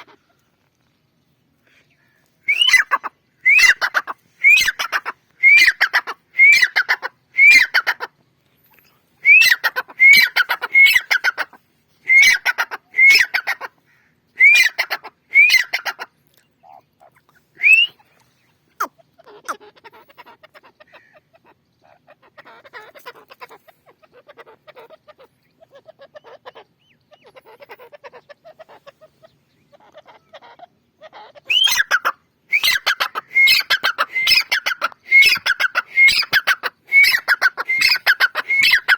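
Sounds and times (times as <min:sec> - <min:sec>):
partridge calling: 0:00.0 - 0:00.4, 0:01.7 - 0:08.1, 0:08.8 - 0:38.9.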